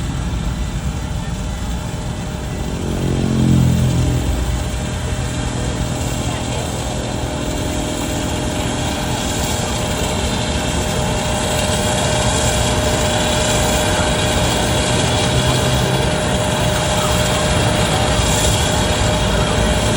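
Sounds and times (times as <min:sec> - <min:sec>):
jet engines at takeoff power: 0:00.0 - 0:19.9.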